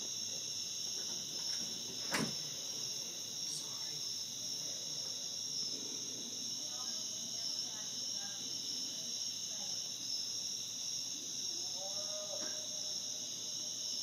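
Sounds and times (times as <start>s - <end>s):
insects chirping at night: 0.0s - 14.0s.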